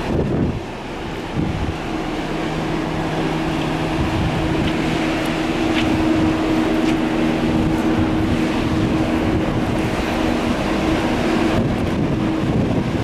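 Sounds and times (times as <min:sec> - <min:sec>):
ship machinery low hum: 0:00.0 - 0:13.0
wind on microphone: 0:00.0 - 0:13.0.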